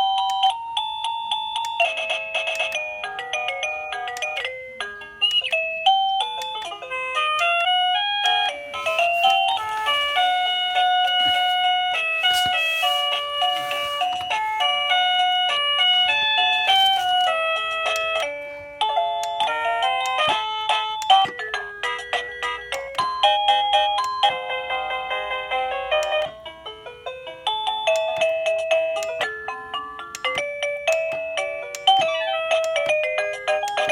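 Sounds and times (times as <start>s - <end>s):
electronic doorbell chime melodies: 0.0s - 33.9s.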